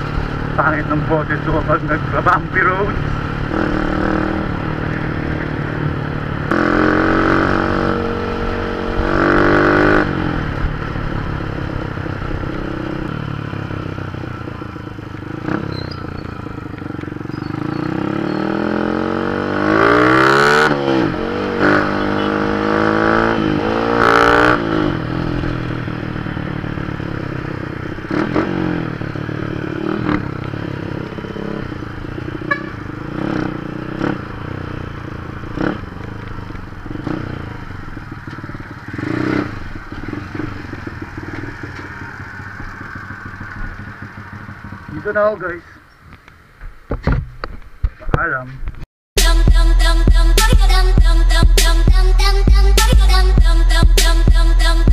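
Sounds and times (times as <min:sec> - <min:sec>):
motorcycle engine running: 0:00.0 - 0:46.3.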